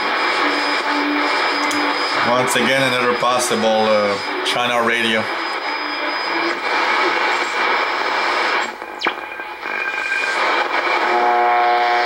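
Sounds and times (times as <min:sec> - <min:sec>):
radio static hiss: 0:00.0 - 0:12.0
steady buzzing tone: 0:00.0 - 0:12.0.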